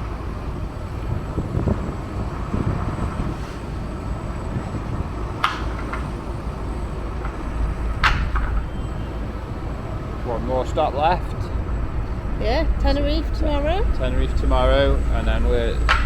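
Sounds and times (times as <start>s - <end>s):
low ship rumble: 0.0s - 16.0s.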